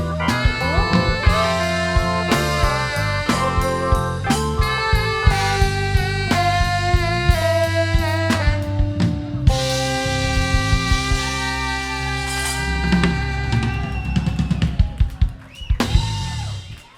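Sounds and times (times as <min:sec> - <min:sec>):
band holding a chord: 0:00.0 - 0:14.7
drum fills with snare and bass drum: 0:00.0 - 0:16.9.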